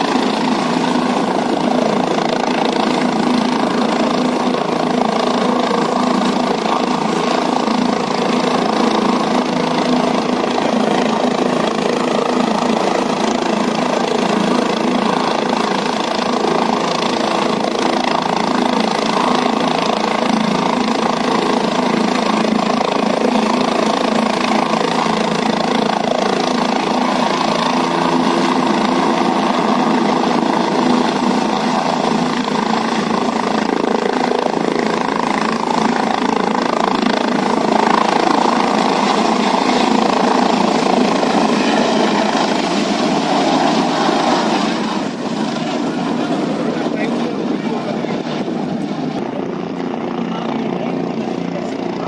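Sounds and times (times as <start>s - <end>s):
helicopter engine and rotor: 0.0s - 52.0s.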